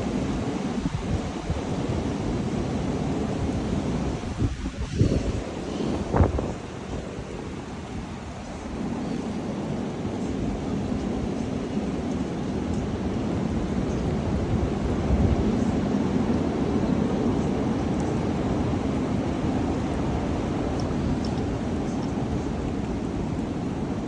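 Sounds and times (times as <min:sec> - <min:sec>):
strong wind blowing: 0:00.0 - 0:24.0
wind buffeting microphone: 0:00.0 - 0:24.0.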